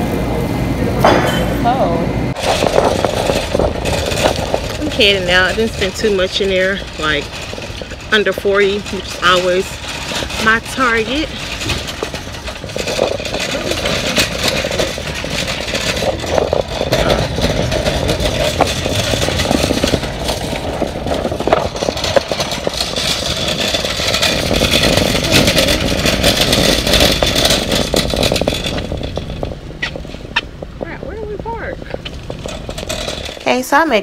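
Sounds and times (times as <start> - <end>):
shopping cart rattling on asphalt: 2.3 - 34.0.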